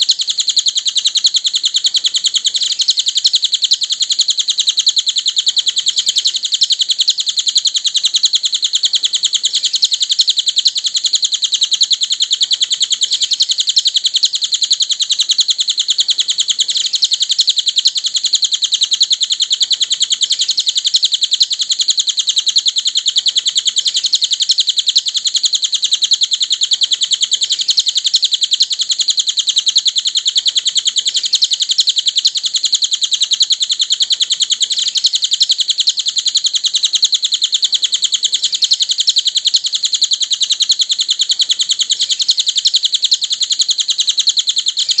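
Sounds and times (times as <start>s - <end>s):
songbird rapid chirping trill: 0.0s - 45.0s.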